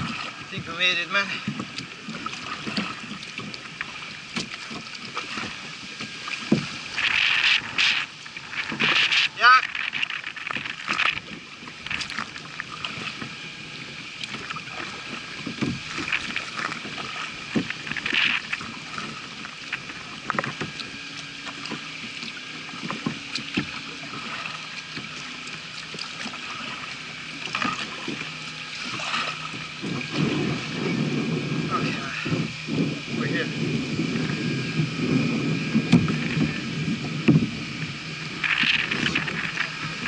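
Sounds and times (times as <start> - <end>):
paddle splashing: 0.0 - 40.0
water washing along hull: 0.0 - 40.0.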